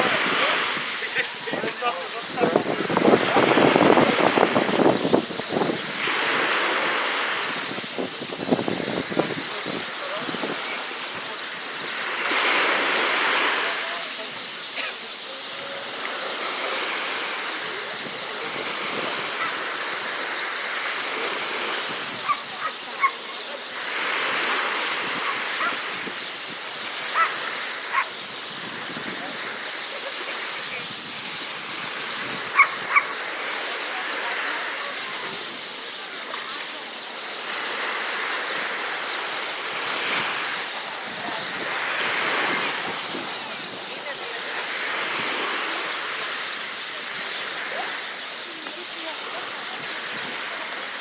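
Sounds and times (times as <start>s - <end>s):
sea waves washing on beach: 0.0s - 51.0s.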